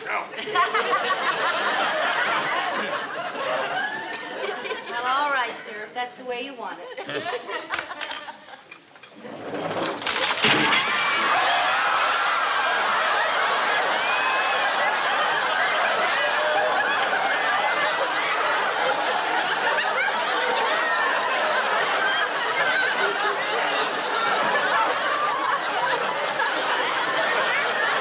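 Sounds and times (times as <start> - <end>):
studio audience laughing: 0.0 - 5.0, 6.8 - 8.8, 10.1 - 28.0.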